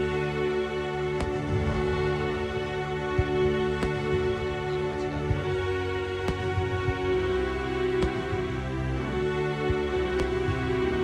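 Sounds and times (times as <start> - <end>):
music with sustained notes: 0.0 - 11.0.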